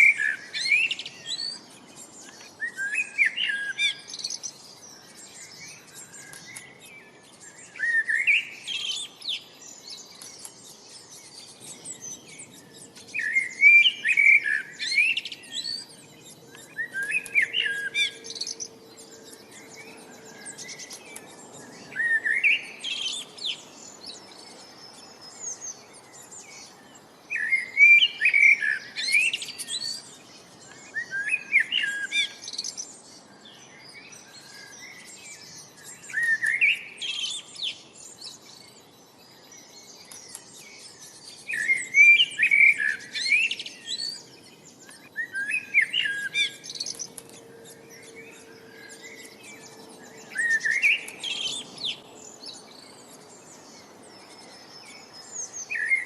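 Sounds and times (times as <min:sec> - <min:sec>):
other birds chirping: 0:00.0 - 0:56.0
songbird singing: 0:00.0 - 0:56.0.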